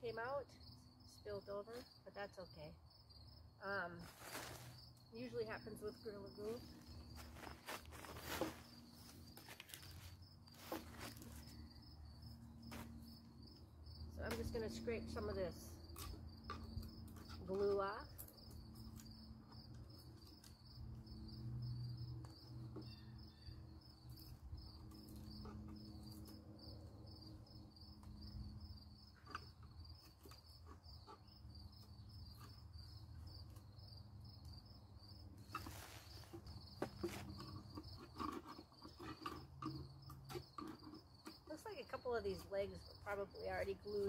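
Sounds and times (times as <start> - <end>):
crickets chirping: 0.1 - 44.0.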